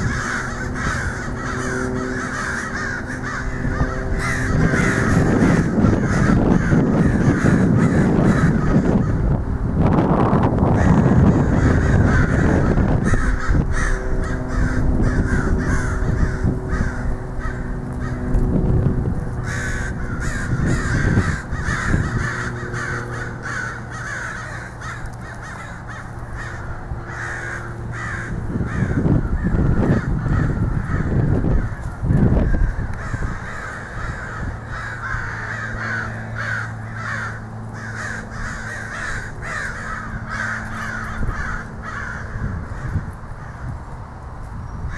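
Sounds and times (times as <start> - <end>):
crows cawing: 0.0 - 9.4, 10.4 - 44.0
low steady hum: 0.0 - 44.9.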